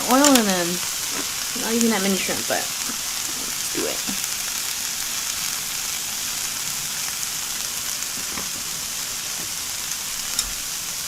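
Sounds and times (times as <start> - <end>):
shrimp sizzling in oil: 0.0 - 11.0.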